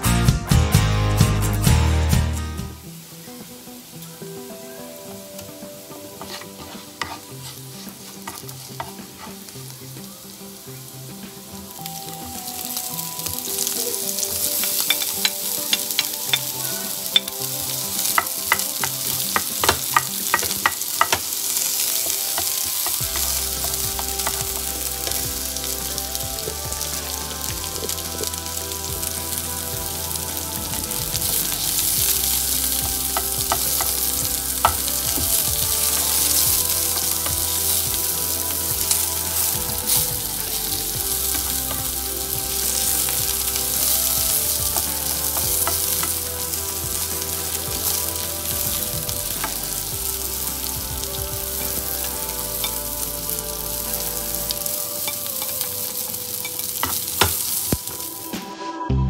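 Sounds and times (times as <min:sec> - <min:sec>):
onion sizzling in hot oil: 0:02.6 - 0:58.3
tongs clicking and scraping pan: 0:06.2 - 0:09.5, 0:12.6 - 0:57.9.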